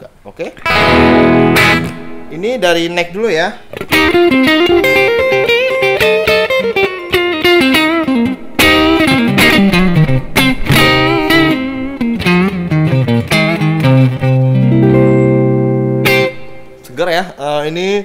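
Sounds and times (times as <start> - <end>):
electric guitar lead: 0.6 - 2.4, 3.6 - 16.9.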